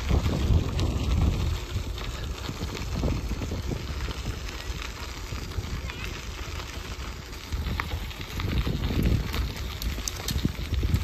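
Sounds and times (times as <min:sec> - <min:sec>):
bicycle tyres on gravel: 0:00.0 - 0:11.0
wind on microphone: 0:00.0 - 0:11.0.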